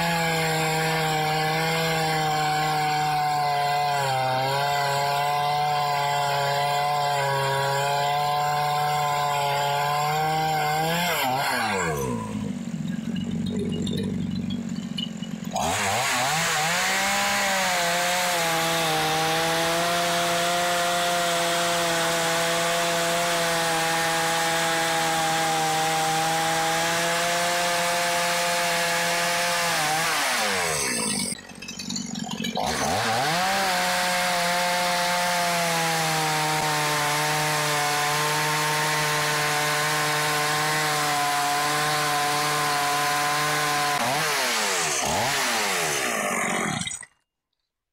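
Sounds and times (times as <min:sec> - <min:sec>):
chainsaw cutting logs: 0:00.0 - 0:47.3.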